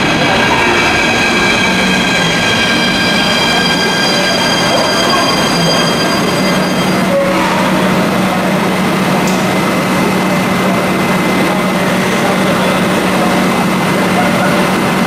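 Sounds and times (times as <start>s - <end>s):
train equipment humming: 0.0s - 15.0s.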